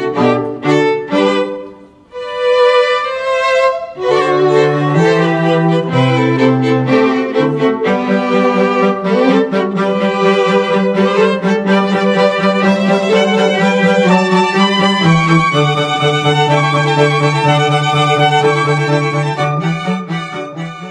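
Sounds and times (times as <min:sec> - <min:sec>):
bowed strings playing slow notes: 0:00.0 - 0:20.9.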